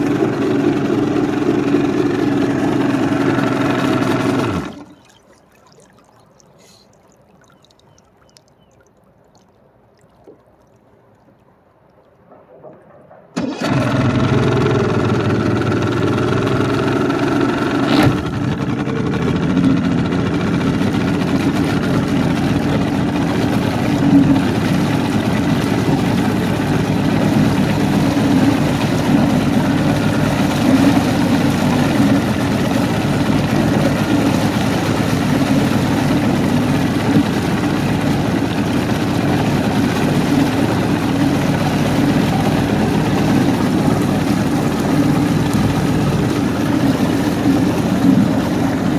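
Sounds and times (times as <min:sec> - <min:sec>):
outboard motor running: 0:00.0 - 0:06.9, 0:12.2 - 0:48.9.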